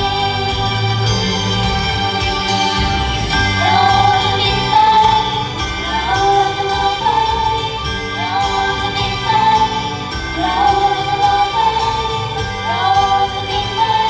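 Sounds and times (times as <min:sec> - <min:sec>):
women singing pop song together: 0:00.0 - 0:14.0.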